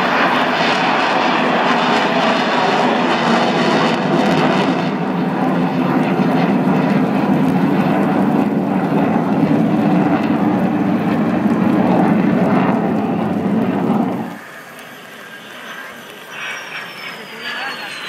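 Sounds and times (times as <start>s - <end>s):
jet aircraft passing: 0.0s - 18.0s.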